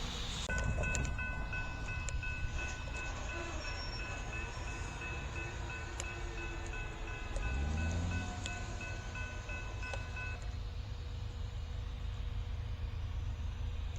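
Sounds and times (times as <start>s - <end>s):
distant train rumbling: 0.0s - 13.9s.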